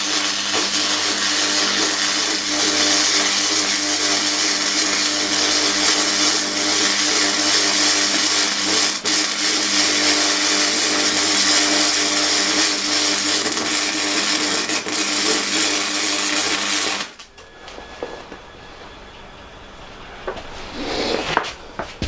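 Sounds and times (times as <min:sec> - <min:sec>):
welding arc crackling buzz: 0:00.0 - 0:18.4.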